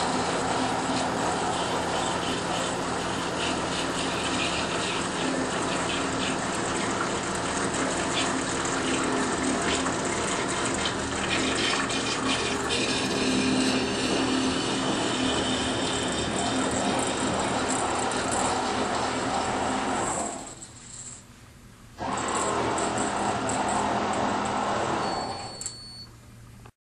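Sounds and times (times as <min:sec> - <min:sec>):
pump hum: 0:00.0 - 0:20.6, 0:22.0 - 0:25.9.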